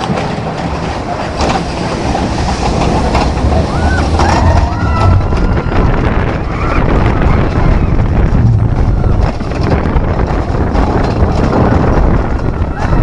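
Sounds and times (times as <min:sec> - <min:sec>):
roller coaster rumbling on track: 0:00.0 - 0:13.0
wind buffeting microphone: 0:00.0 - 0:13.0.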